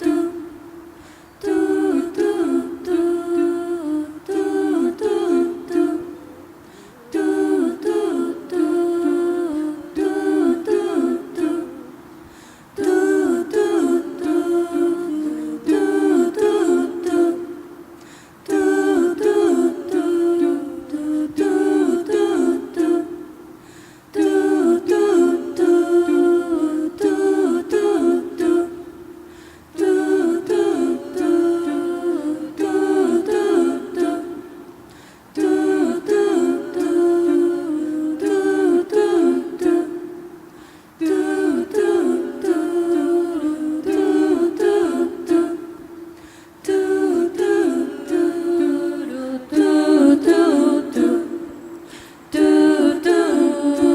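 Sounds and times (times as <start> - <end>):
voices humming a cappella: 0.0 - 53.9.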